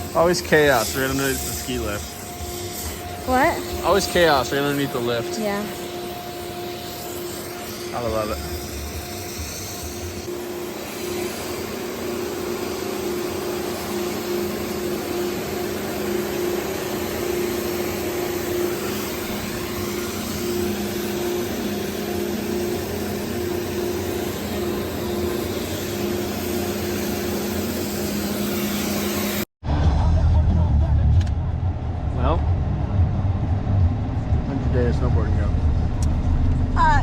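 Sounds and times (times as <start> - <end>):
two-tone machine hum: 0.0 - 37.0.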